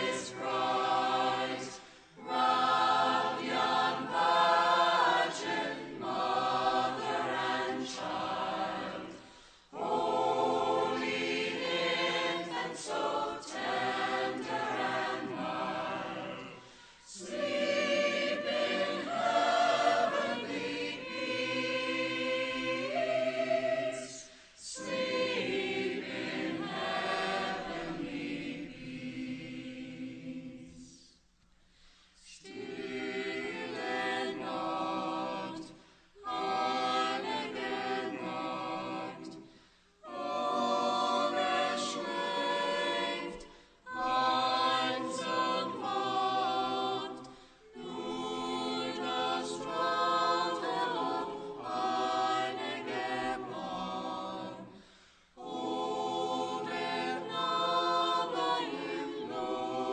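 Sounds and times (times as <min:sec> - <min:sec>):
choir singing: 0:00.0 - 0:31.3, 0:32.2 - 0:59.9.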